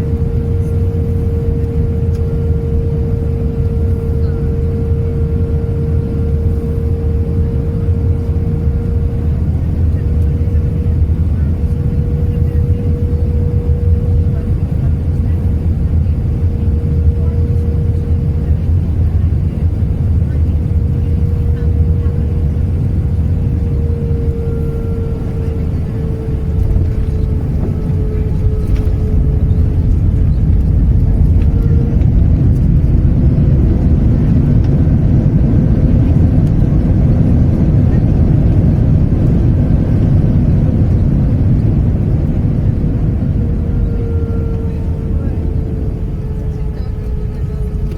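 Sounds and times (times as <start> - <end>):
airplane cabin engine rumble: 0.0 - 47.9
faint steady whine: 0.0 - 47.9.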